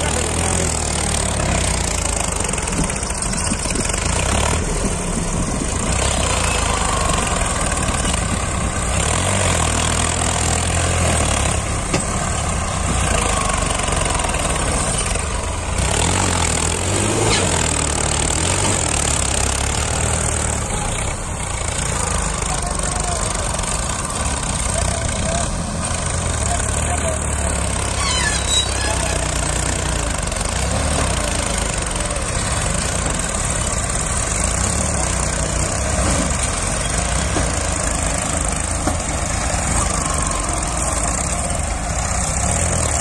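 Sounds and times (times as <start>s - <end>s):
other tractor engines running: 0.0s - 43.0s
tractor engine labouring: 0.0s - 43.0s.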